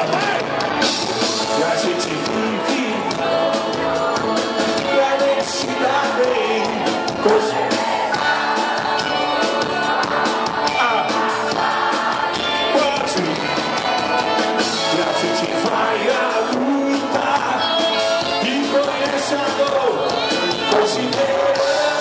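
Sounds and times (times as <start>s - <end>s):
faint crowd: 0.0s - 22.0s
live rock band: 0.0s - 22.0s
person singing: 1.4s - 22.0s.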